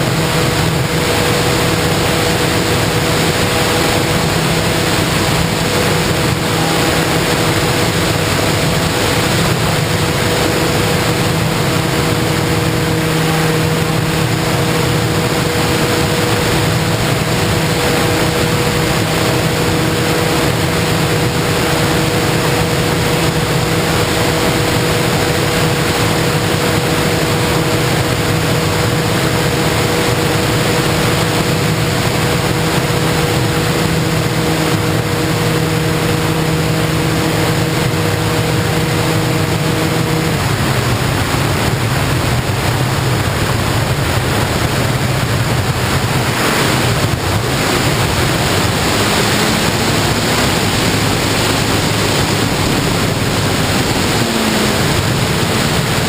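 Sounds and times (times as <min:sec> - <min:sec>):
model plane motor humming: 0:00.0 - 0:56.0
wind rushing: 0:00.0 - 0:56.0.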